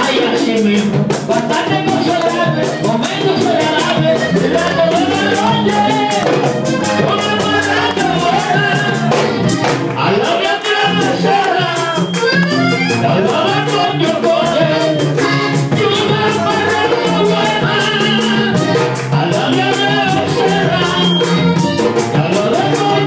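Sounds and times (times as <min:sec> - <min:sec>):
man singing into a microphone: 0:00.0 - 0:23.0
salsa dance music: 0:00.0 - 0:23.0
shaker percussion rhythm: 0:00.0 - 0:23.0.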